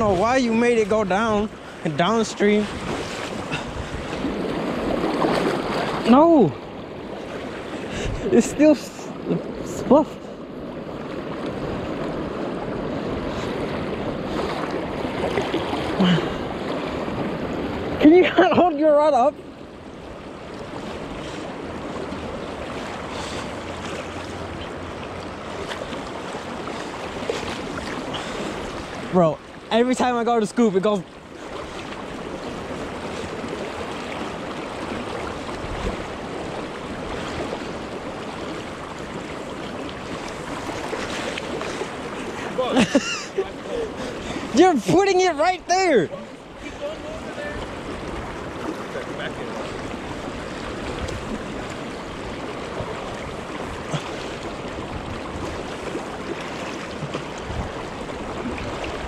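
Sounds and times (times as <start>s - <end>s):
fast-flowing river rushing: 0.0s - 59.0s.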